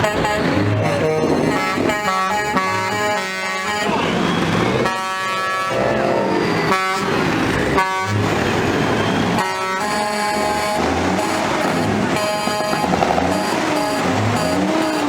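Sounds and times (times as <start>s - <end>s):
running vehicles noise: 0.0s - 15.0s
truck horns blasting: 0.0s - 15.0s.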